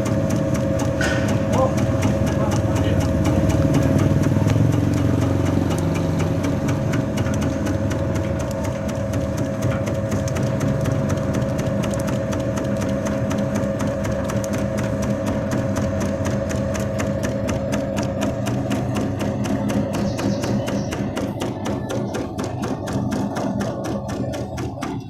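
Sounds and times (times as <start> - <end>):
fast even clacking: 0.0 - 25.0
slicing machine motor hum: 0.0 - 25.0.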